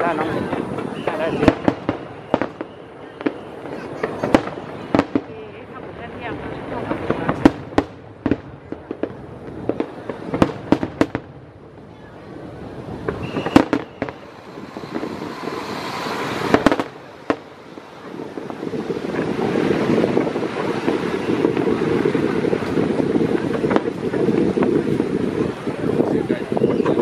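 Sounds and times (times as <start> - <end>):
fireworks bangs: 0.0 - 27.0
rising firework hiss: 0.0 - 27.0
wind on microphone: 0.0 - 27.0.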